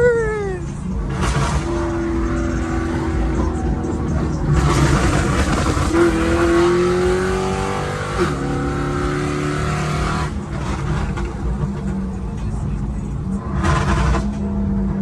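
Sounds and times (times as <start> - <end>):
car engine accelerating: 0.6 - 15.0.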